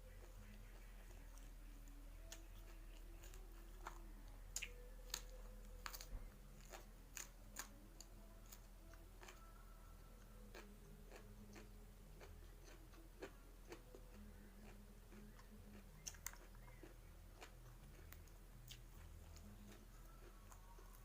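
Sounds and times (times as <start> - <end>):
person chewing: 0.1 - 9.7, 10.5 - 21.0.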